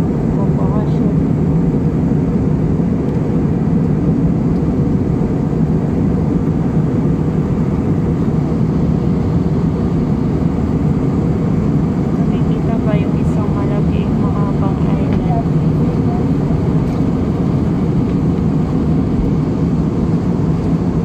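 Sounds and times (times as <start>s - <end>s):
airliner cabin jet noise: 0.0s - 21.0s.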